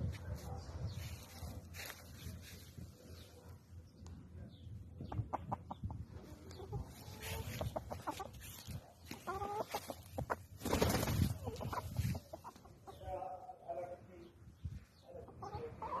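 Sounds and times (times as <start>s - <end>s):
chicks peeping: 0.1s - 16.0s.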